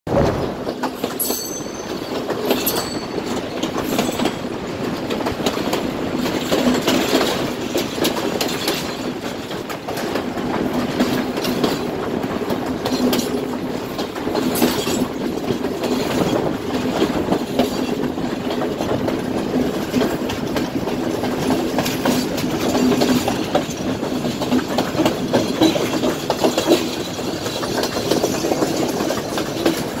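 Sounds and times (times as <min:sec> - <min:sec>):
moving train carriages: 0:00.1 - 0:30.0
wheels clacking over rails: 0:00.1 - 0:30.0.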